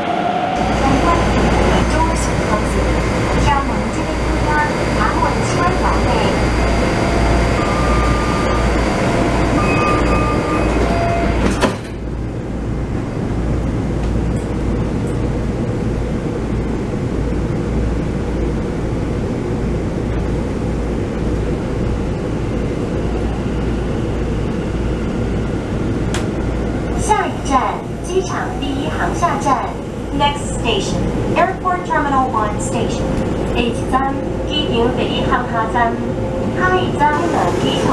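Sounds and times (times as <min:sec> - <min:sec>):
train rumble inside passenger car: 0:00.0 - 0:37.9.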